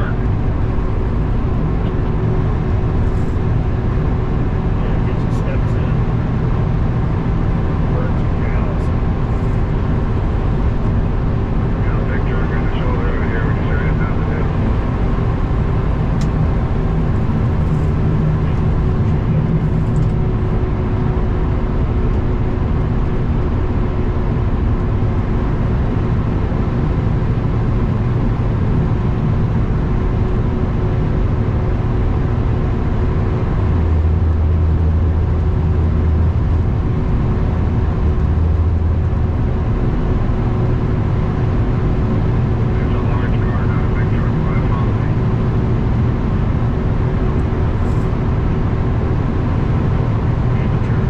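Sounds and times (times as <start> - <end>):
road noise: 0.0 - 51.0
truck diesel engine running: 0.0 - 51.0.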